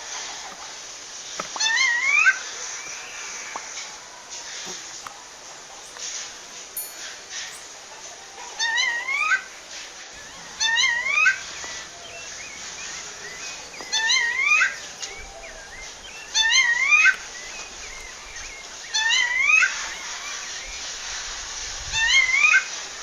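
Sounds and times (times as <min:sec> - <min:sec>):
thrush rising calls: 0:01.6 - 0:23.0.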